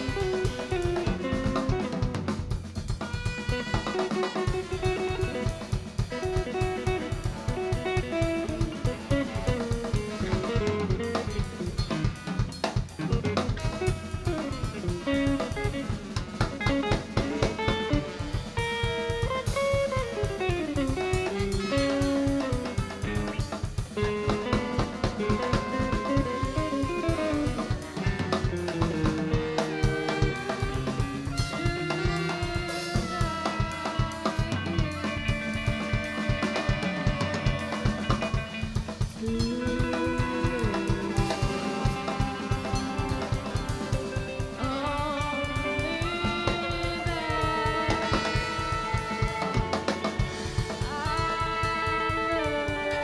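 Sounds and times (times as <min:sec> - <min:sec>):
busy drum kit: 0:00.0 - 0:53.0
live jazz ensemble: 0:00.0 - 0:53.0.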